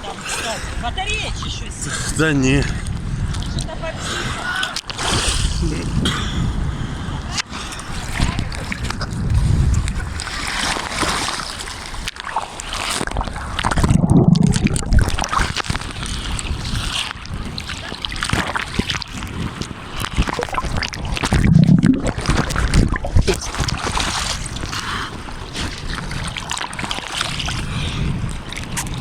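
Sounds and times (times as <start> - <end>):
sea water splashing and sloshing: 0.0 - 29.0.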